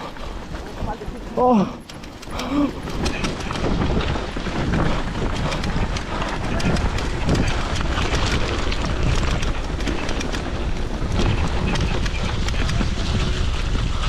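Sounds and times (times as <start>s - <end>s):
crackles: 0.0s - 14.0s
rumbling rushing noise: 0.0s - 14.0s
wind buffeting microphone: 0.0s - 14.0s.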